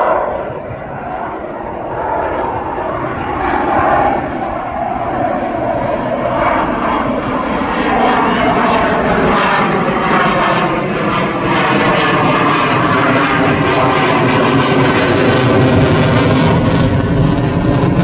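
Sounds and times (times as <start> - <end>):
aircraft engine flying over: 0.0 - 18.0.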